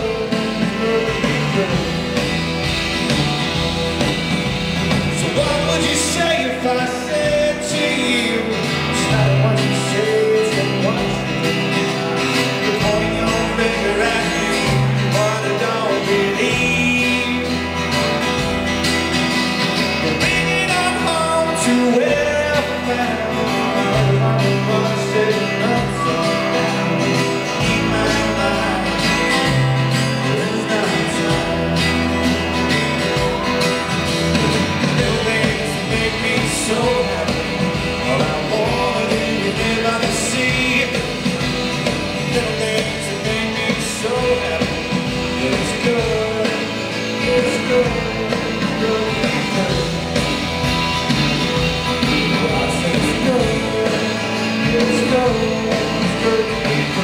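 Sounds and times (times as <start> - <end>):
man singing: 0.0 - 2.6, 4.9 - 18.2, 19.8 - 50.5, 51.8 - 57.0
rock band playing: 0.0 - 57.0.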